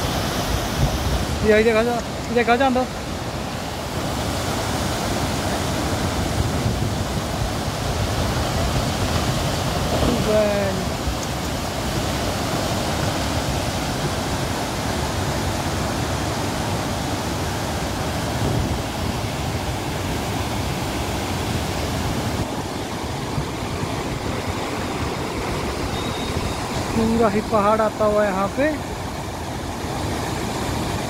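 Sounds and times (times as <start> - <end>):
flooded river water rushing: 0.0 - 31.0.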